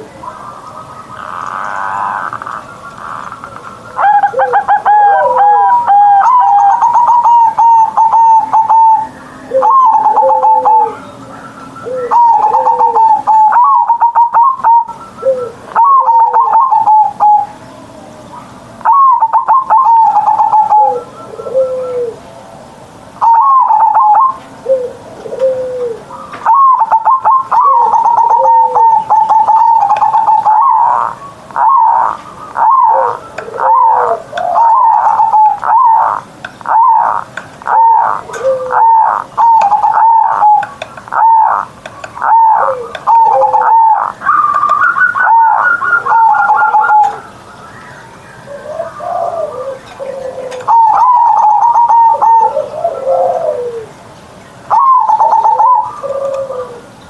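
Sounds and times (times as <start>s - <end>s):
dove cooing: 0.0s - 17.6s, 18.8s - 22.3s, 23.2s - 47.3s, 48.4s - 54.0s, 54.7s - 57.0s.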